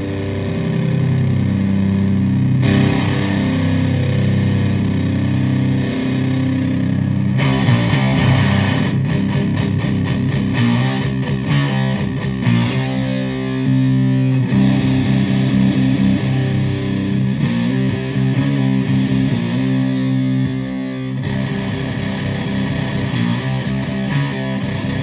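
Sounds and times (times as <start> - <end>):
distorted electric guitar riff: 0.0 - 25.0.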